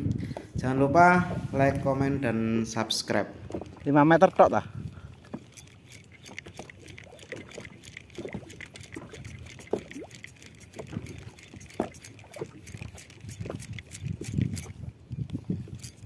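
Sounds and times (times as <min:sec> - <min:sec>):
small waves lapping against boat: 0:00.0 - 0:16.0.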